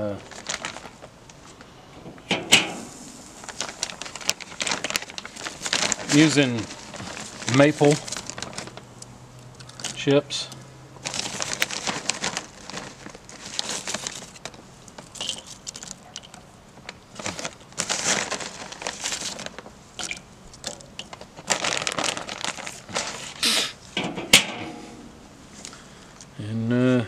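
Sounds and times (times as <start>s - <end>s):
wood chips rustling in bag: 0.0s - 1.7s, 2.8s - 8.9s, 9.6s - 24.0s.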